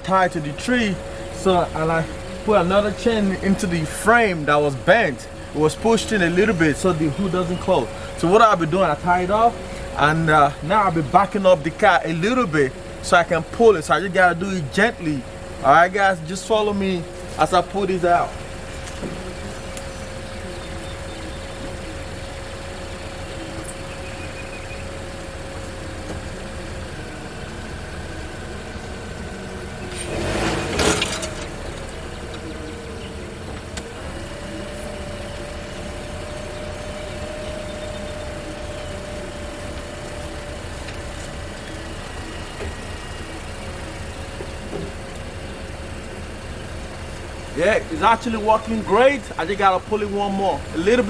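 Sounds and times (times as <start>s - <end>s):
car engine running slowly: 0.0s - 51.0s.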